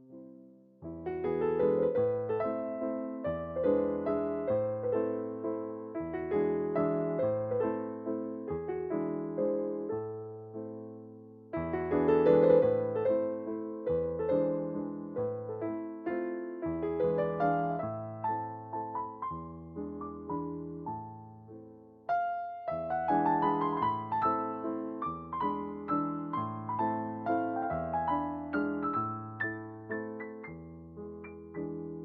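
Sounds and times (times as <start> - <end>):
gentle piano music: 0.0 - 32.0.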